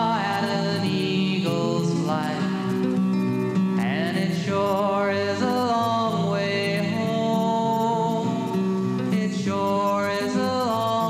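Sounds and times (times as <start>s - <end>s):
person singing: 0.0s - 3.1s, 3.7s - 11.0s
acoustic guitar music: 0.0s - 11.0s.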